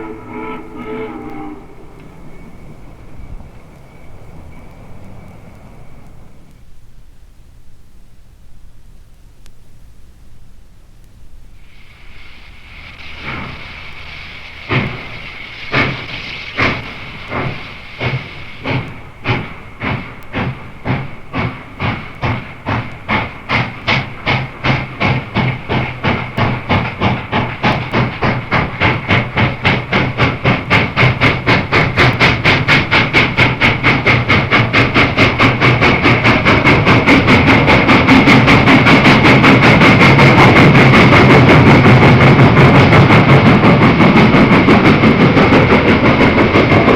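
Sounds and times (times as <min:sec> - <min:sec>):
steam locomotive exhaust beats: 0:00.0 - 0:46.9.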